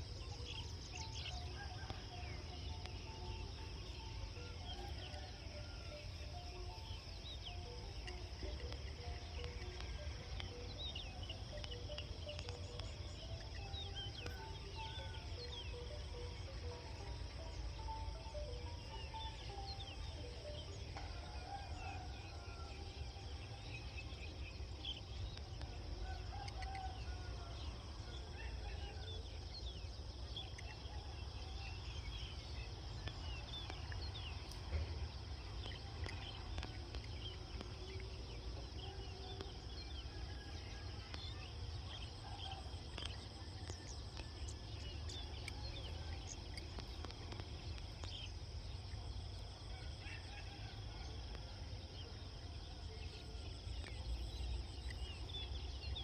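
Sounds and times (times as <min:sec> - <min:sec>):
birds chirping: 0:00.0 - 0:50.7.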